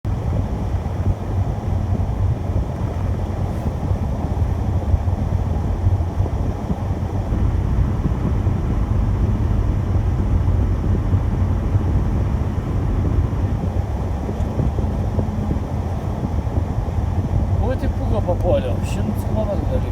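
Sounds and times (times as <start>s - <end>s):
car engine rumble: 0.0s - 19.9s
road noise: 0.1s - 19.9s.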